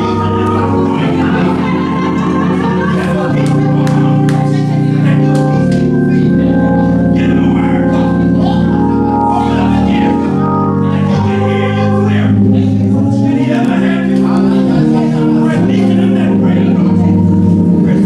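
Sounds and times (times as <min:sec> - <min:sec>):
church organ chords: 0:00.0 - 0:18.0.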